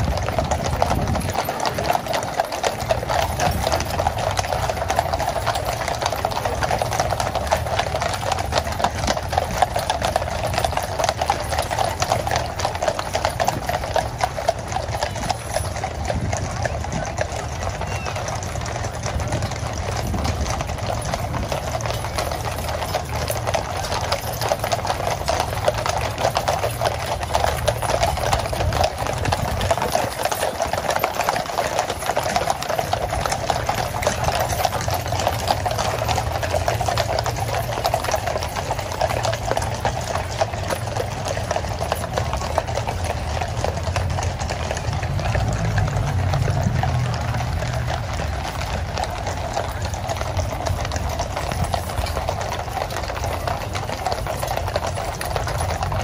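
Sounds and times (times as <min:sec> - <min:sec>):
horse hooves clip-clopping on tarmac: 0:00.0 - 0:56.0.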